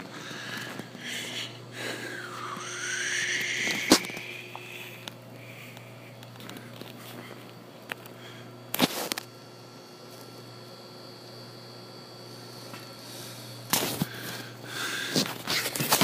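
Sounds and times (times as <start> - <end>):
building interior hum: 0.0 - 15.3.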